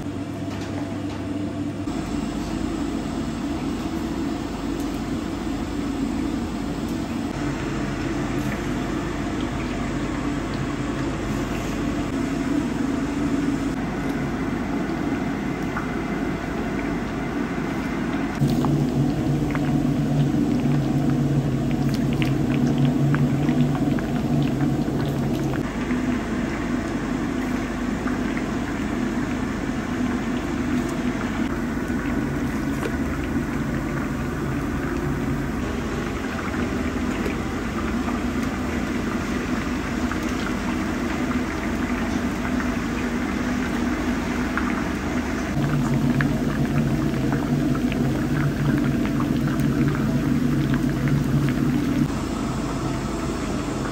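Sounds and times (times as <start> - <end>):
low steady hum: 0.0 - 53.9
meat sizzling in deep oil: 1.8 - 53.9.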